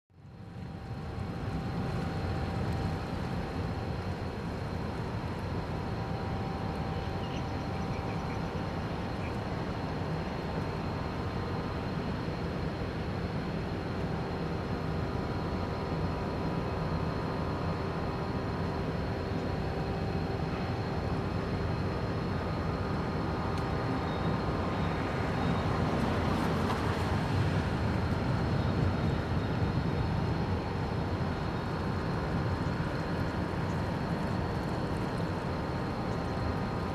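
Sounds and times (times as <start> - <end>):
faint whining tones: 0.2 - 36.9.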